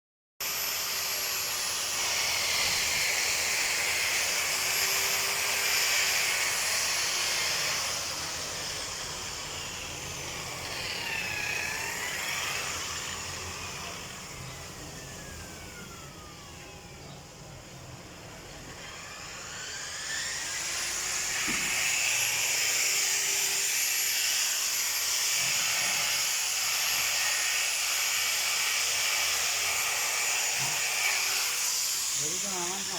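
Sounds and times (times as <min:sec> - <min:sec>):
milling machine whining: 0:00.4 - 0:32.9.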